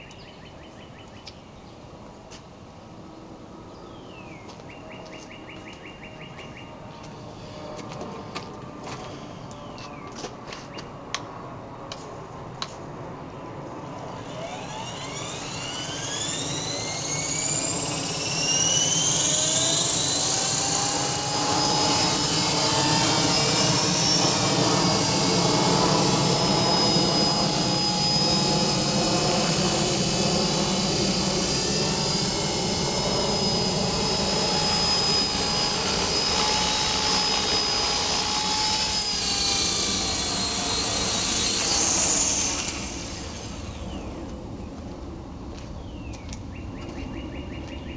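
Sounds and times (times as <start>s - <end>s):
model helicopter motor whine: 2.8s - 10.4s, 13.7s - 44.8s.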